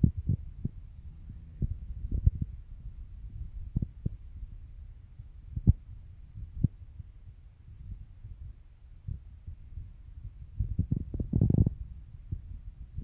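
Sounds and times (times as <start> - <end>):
low muffled rumble: 0.0 - 13.0.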